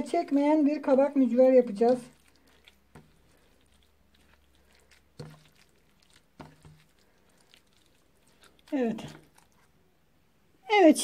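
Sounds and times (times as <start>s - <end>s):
wet squelching of kneading: 0.0s - 10.4s.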